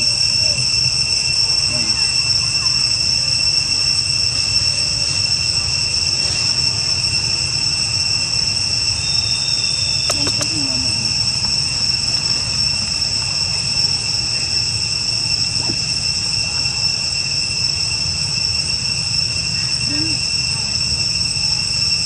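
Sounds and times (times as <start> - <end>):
insects droning: 0.0 - 22.0
low steady rumble: 0.0 - 22.0.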